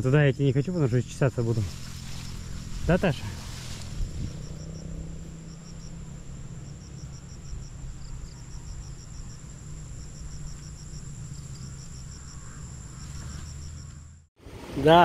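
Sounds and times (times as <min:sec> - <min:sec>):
insects chirping: 0:00.0 - 0:15.0
low steady rumble: 0:00.0 - 0:15.0.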